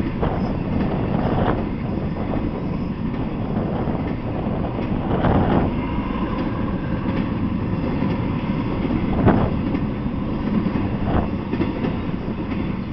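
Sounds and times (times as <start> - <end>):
freight train rumbling on rails: 0.0 - 12.9
train car clank: 0.0 - 12.9.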